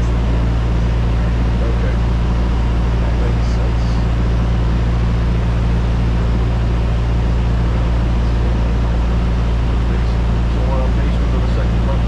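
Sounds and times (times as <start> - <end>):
propeller airplane engine drone: 0.0 - 12.0.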